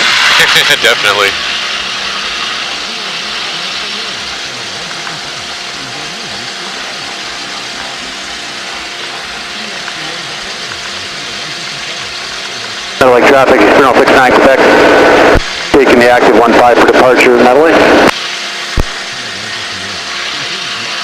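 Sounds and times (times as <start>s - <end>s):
intercom hiss: 0.0s - 18.2s, 18.8s - 21.0s
twin piston engines humming: 0.0s - 21.0s.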